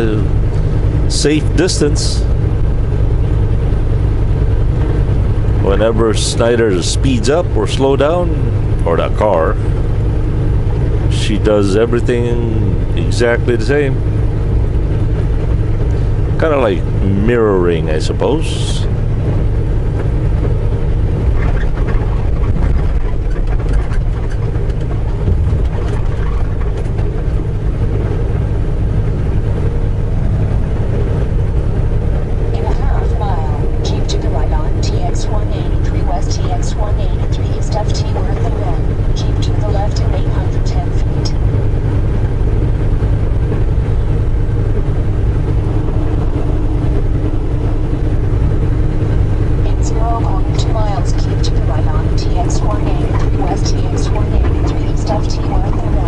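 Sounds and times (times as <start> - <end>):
road noise: 0.0 - 56.0
truck engine drone in cab: 0.0 - 56.0.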